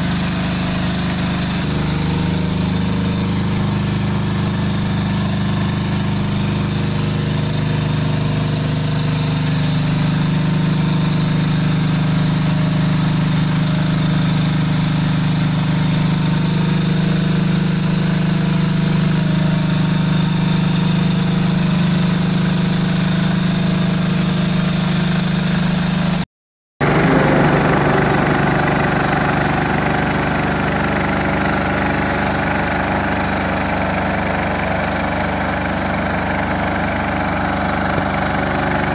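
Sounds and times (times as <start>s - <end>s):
weed-cleaning machine engine running: 0.0s - 26.2s, 26.8s - 38.9s.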